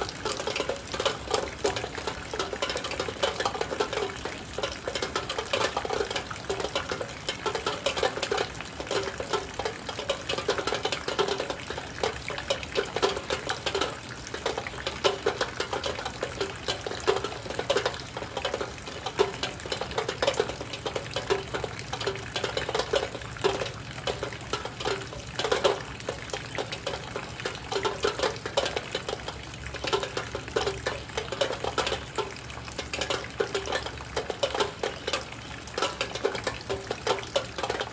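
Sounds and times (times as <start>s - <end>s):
heavy rain on a window: 0.0s - 37.9s.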